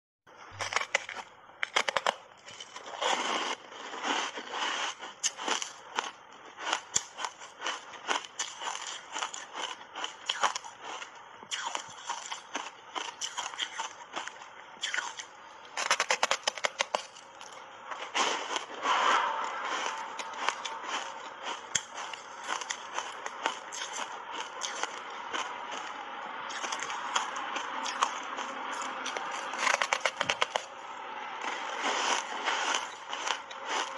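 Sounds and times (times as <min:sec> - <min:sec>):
ice being chewed with crunches: 0:00.4 - 0:18.8, 0:19.4 - 0:33.9.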